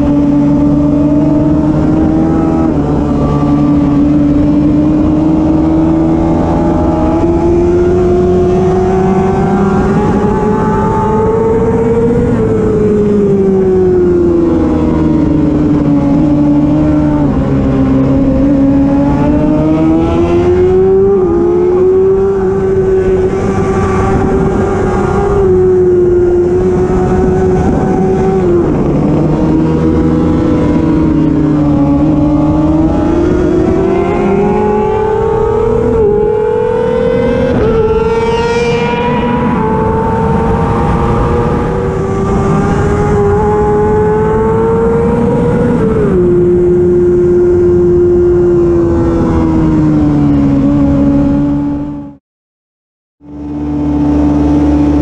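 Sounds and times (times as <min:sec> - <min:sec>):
sport bike engine revving: 0:00.0 - 0:52.2.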